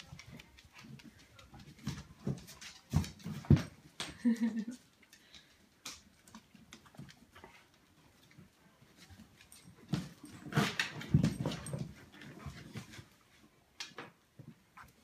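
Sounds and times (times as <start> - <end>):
faint clicks and rustling: 0.0 - 15.0.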